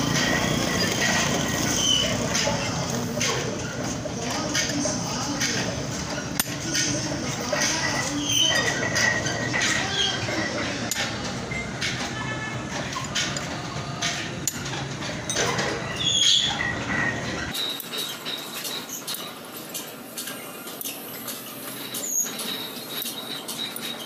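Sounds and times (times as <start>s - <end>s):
steel rollers clicking and clinking: 0.0s - 24.0s.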